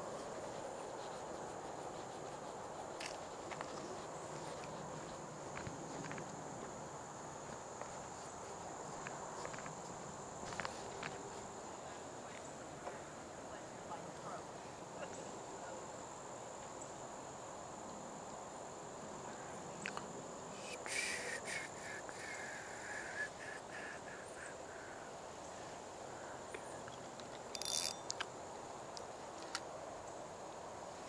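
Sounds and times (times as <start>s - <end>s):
steady high-pitched whine: 0.0s - 31.0s.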